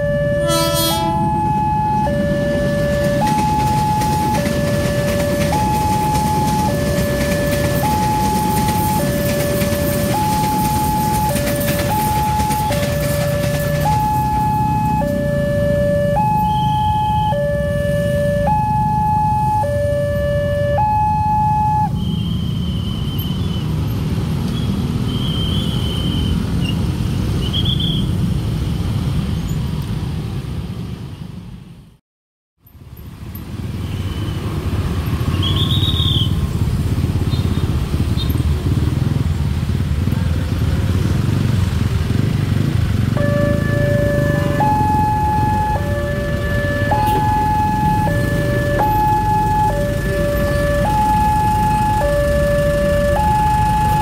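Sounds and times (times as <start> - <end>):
traffic rumble: 0.0 - 32.0, 32.6 - 54.0.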